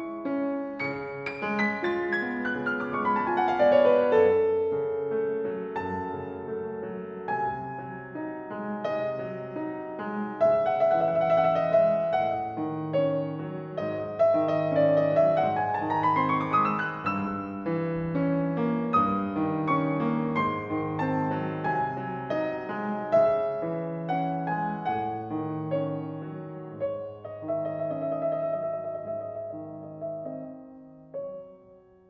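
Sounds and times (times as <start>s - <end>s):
gentle solo piano piece: 0.0s - 32.0s.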